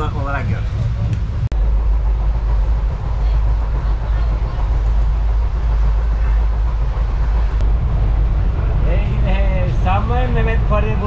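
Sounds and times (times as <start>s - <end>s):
train rumbling and rattling: 0.0s - 11.0s.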